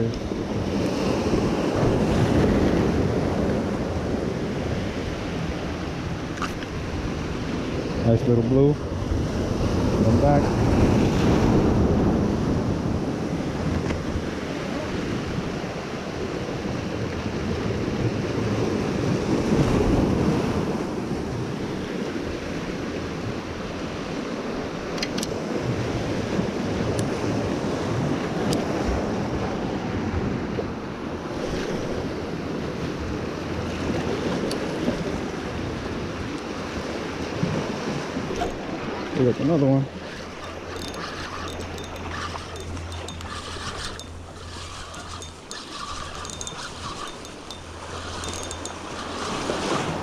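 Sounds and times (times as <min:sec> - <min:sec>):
surf washing over rocks: 0:00.0 - 0:40.7, 0:46.9 - 0:50.0.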